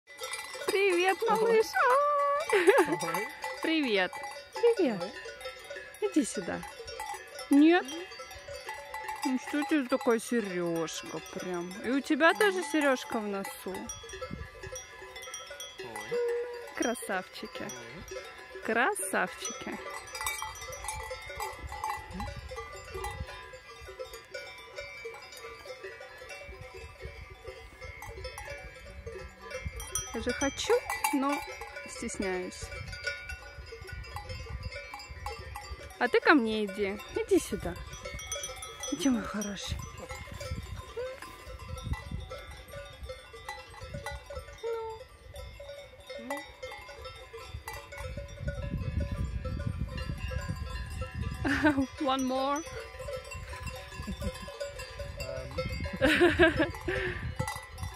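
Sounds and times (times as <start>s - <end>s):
cowbells clanking: 0.1s - 57.9s.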